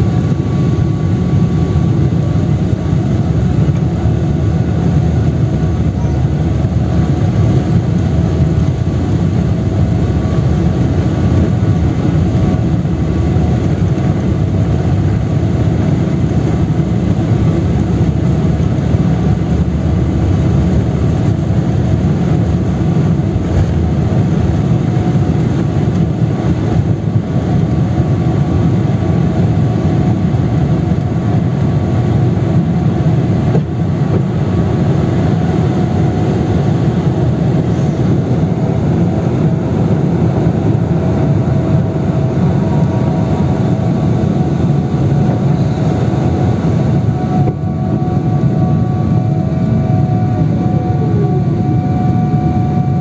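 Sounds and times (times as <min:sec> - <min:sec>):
faint engine whine: 0:00.0 - 0:53.0
jet engines deep rumble: 0:00.0 - 0:53.0.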